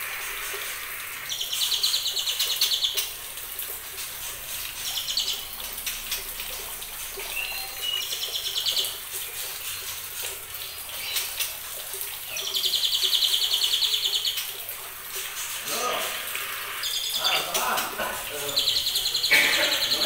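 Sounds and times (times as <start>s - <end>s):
birds calling with rattling trills: 0.0s - 20.0s.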